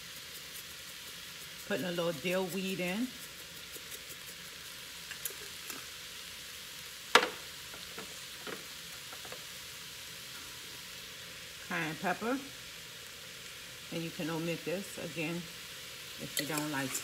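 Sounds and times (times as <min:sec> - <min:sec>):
leeks sizzling in oil: 0:00.0 - 0:17.0.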